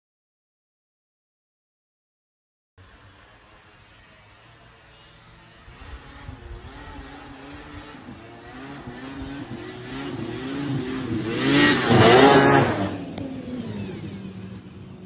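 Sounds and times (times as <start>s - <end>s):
snowmobile engine passing: 2.8s - 15.0s.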